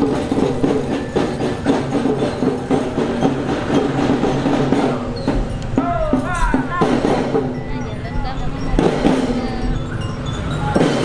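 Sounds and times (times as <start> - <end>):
marching drums: 0.0 - 11.0.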